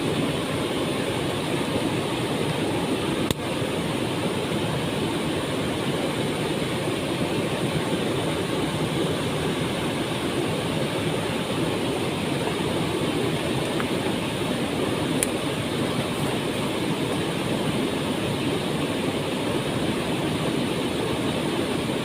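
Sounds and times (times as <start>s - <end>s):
waterfall pouring and splashing: 0.0s - 22.0s.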